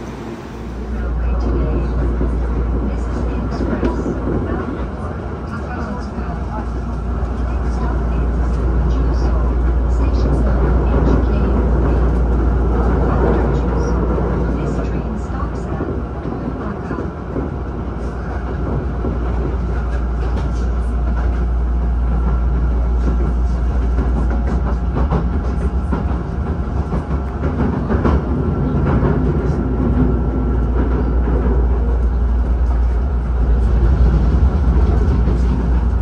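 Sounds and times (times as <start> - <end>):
electric train rumble: 0.0 - 36.0.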